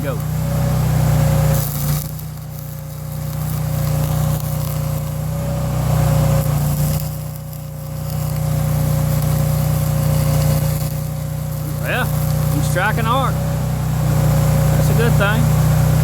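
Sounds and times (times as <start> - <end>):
welding arc hissing and crackling: 0.0 - 16.0
welding machine hum: 0.0 - 16.0.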